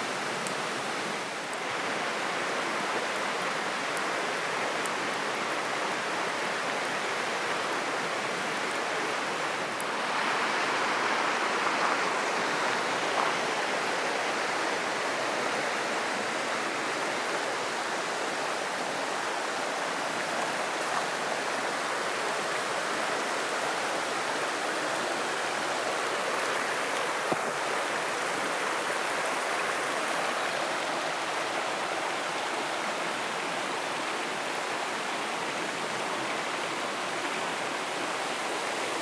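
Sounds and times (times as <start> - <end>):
stream water flowing: 0.0 - 39.0.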